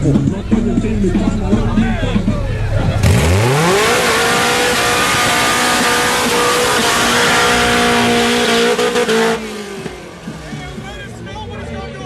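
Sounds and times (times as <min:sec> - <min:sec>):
car engine revving high: 0:00.0 - 0:11.3.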